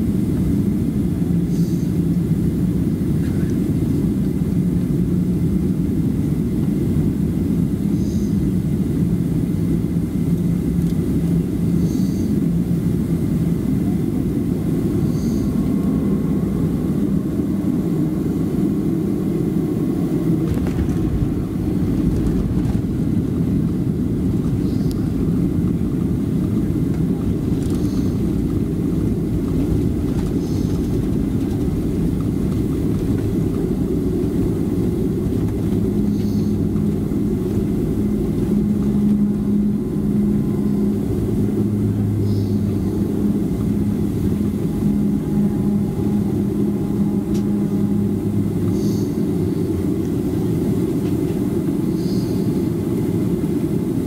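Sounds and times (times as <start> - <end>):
airplane cabin rumble: 0.0 - 54.0
engine hum: 0.0 - 54.0.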